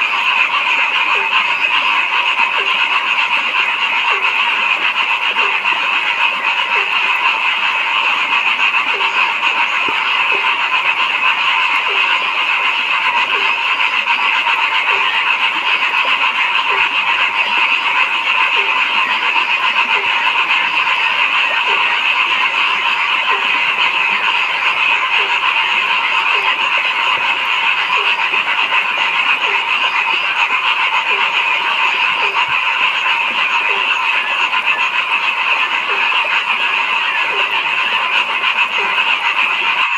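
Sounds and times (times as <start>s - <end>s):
chorus of frogs calling: 0.0s - 39.9s
low frog croaks: 0.0s - 39.9s.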